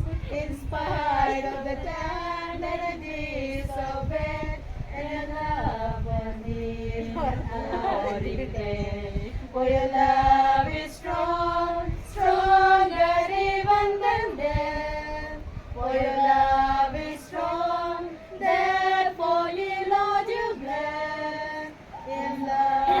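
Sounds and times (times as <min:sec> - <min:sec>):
women singing a hymn: 0:00.0 - 0:23.0.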